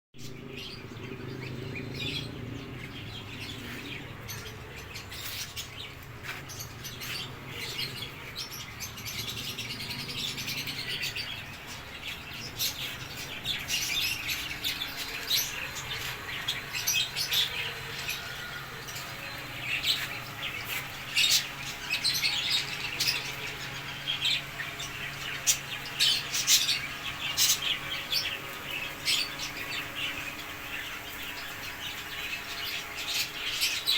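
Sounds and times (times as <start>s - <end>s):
low steady hum: 0.2s - 33.9s
pet birds chirping and calling: 0.2s - 33.9s.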